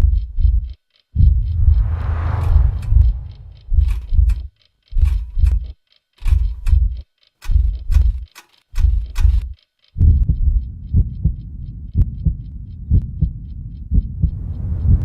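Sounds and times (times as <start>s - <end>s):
heartbeat thumps: 0.0s - 8.2s, 8.8s - 15.0s.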